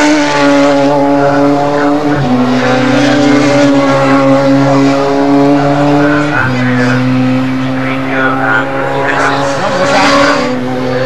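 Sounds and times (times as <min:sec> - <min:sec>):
race car engine running hard: 0:00.0 - 0:11.0.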